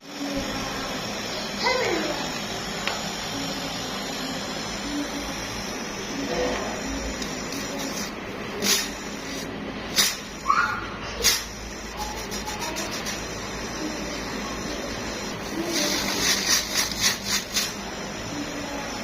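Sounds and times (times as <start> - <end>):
gas hissing: 0.0 - 19.0.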